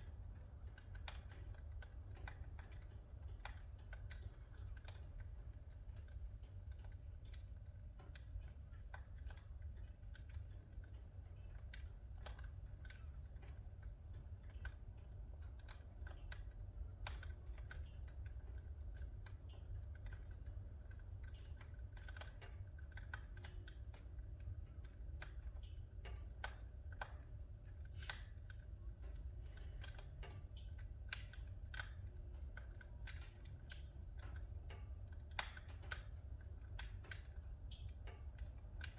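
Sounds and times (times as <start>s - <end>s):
firewood crackling and popping: 0.0s - 38.9s
low steady fire rumble: 0.0s - 38.9s.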